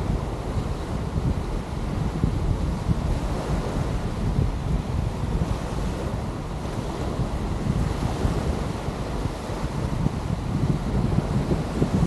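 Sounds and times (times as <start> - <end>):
surf washing on beach: 0.0 - 12.0
wind buffeting microphone: 0.0 - 12.0.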